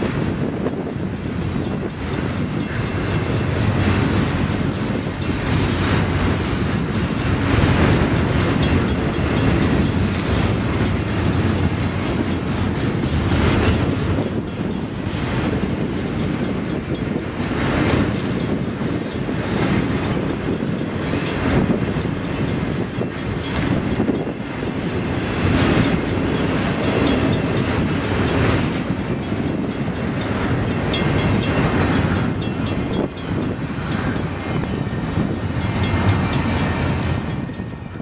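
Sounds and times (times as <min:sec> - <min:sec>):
train rumbling on track: 0:00.0 - 0:38.0
train wheels clattering: 0:00.0 - 0:38.0.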